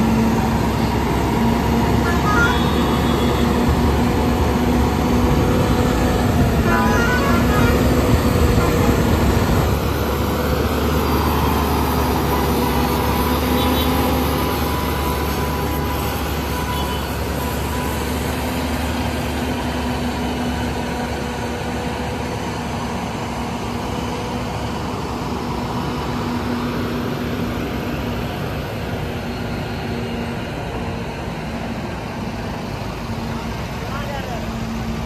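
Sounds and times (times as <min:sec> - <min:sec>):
heavy truck engine droning: 0:00.0 - 0:35.0
traffic and street noise: 0:00.0 - 0:35.0.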